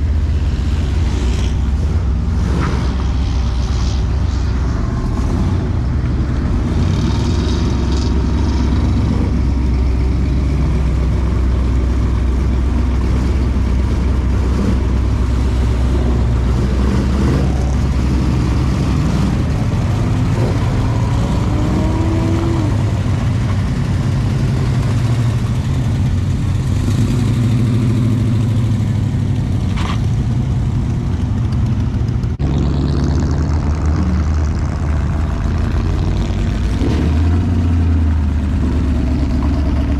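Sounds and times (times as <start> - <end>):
car engines idling and revving: 0.0 - 39.9
cars driving past: 0.0 - 39.9.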